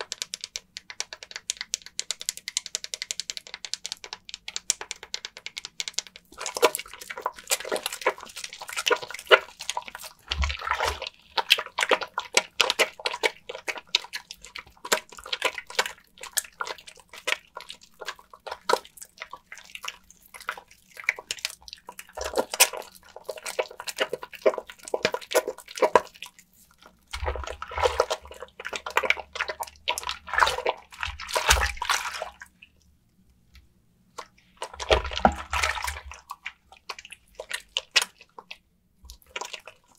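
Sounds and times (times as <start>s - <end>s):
water dripping: 0.0s - 32.9s, 34.2s - 39.9s
wet soap lather squishing: 0.0s - 39.9s.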